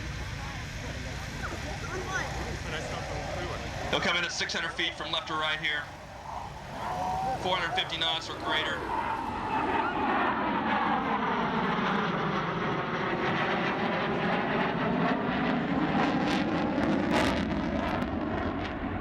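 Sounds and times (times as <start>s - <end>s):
jet engine crackle: 0.0s - 19.0s
jet flying past: 0.0s - 19.0s.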